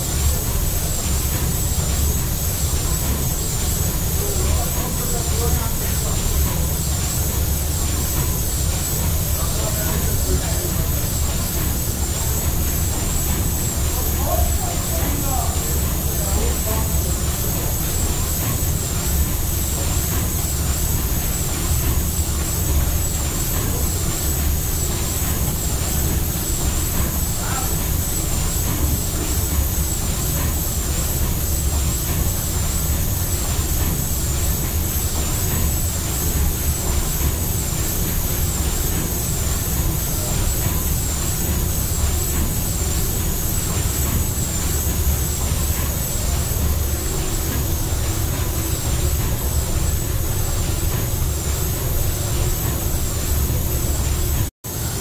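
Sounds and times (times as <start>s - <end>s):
steam engine mechanical beat: 0.0s - 55.0s.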